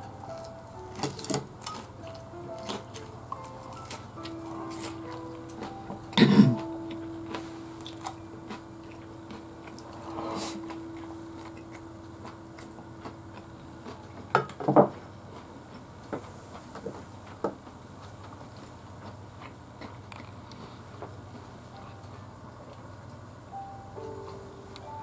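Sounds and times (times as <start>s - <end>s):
person chewing rice: 0.0s - 21.4s.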